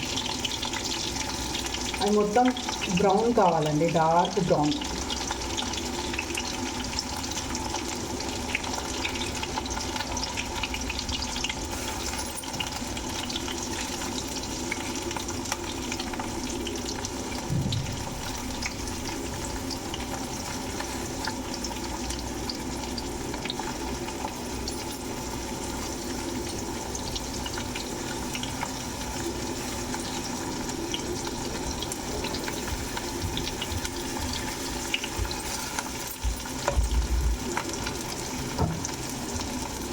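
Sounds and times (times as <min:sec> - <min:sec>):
onions sizzling in hot oil: 0:00.0 - 0:39.9.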